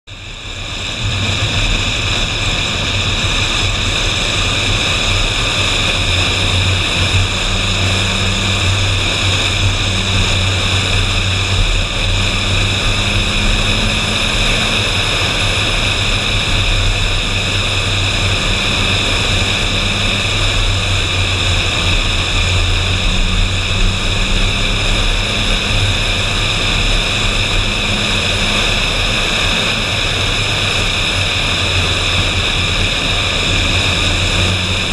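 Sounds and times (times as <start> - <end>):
car engine drone: 0.0 - 34.9.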